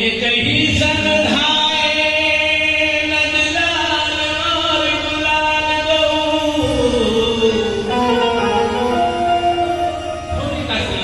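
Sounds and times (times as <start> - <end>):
slow devotional chant singing: 0.0 - 11.0.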